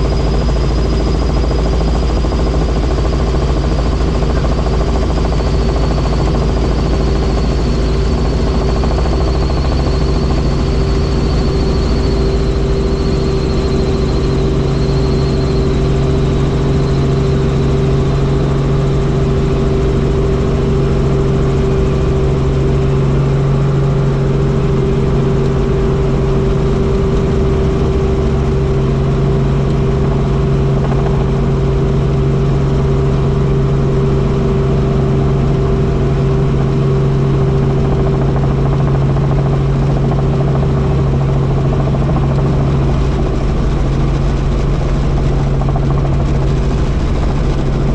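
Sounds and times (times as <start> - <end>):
helicopter rotor drone: 0.0 - 47.9
high turbine whine: 0.0 - 47.9.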